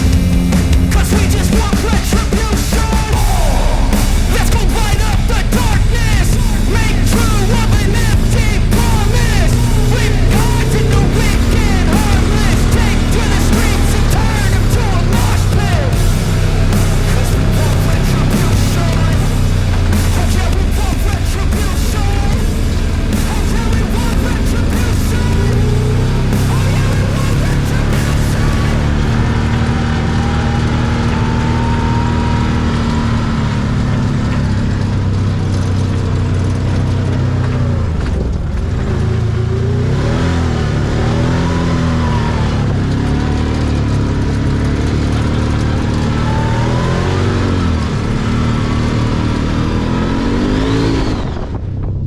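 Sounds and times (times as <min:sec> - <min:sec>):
engine revving: 0:00.0 - 0:52.0.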